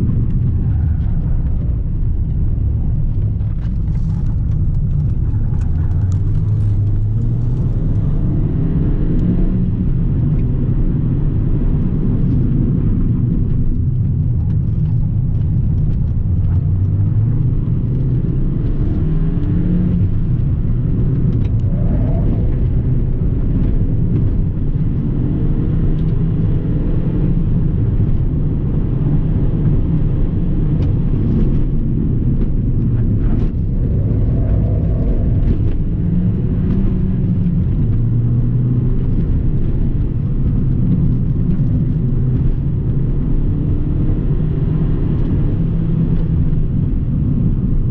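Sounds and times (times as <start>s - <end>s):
car engine revving: 0.0s - 47.7s
tyre and road noise: 0.0s - 47.9s.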